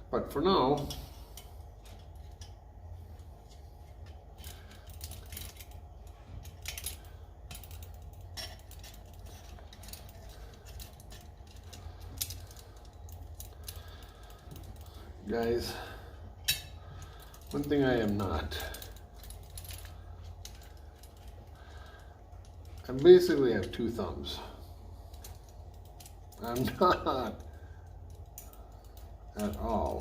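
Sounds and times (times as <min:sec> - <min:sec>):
steady low hum: 0:00.0 - 0:30.0
small metal parts clinking: 0:03.5 - 0:30.0.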